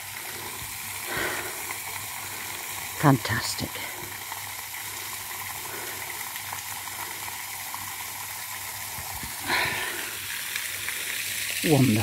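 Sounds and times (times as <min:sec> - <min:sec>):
fountain splashing: 0:00.0 - 0:12.0.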